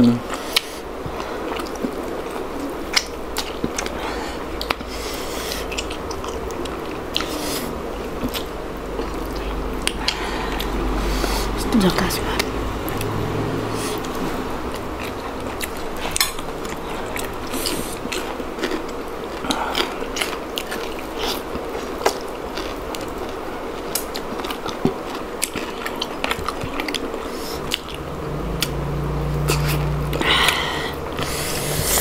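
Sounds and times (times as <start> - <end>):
chewing with mouth clicks: 0.3 - 11.6, 12.2 - 32.0.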